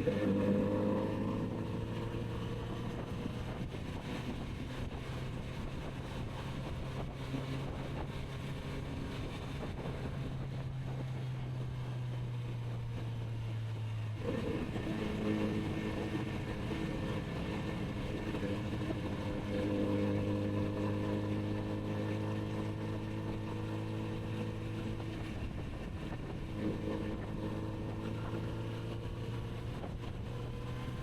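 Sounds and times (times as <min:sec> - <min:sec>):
motorcycle engine running: 0:00.0 - 0:31.0
wind noise: 0:01.4 - 0:31.0.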